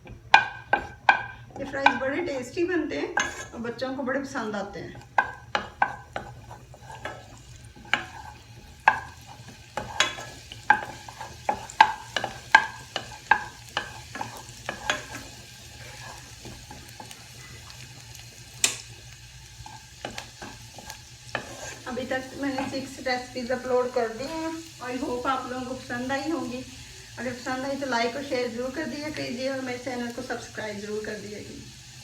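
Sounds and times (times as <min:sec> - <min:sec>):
spoon scraping a pan: 0:00.0 - 0:30.6
faint sizzle: 0:00.0 - 0:32.0.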